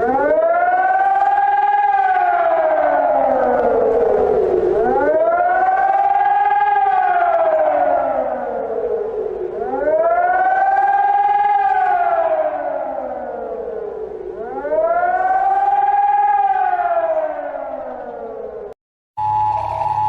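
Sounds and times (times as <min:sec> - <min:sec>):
civil defense siren wailing: 0:00.0 - 0:20.0.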